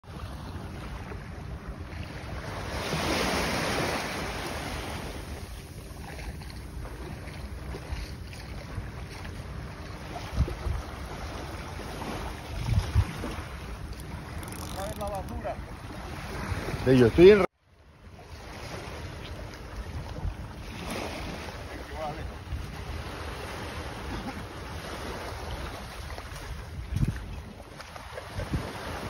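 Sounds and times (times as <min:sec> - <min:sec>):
small waves washing: 0:00.0 - 0:29.0
wind buffeting microphone: 0:00.2 - 0:17.4, 0:18.7 - 0:29.0.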